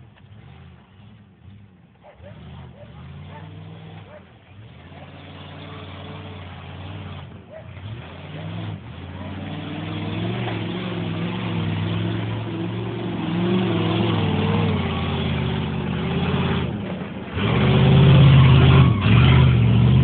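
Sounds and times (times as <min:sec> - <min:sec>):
pickup truck engine revving: 0:00.2 - 0:20.0.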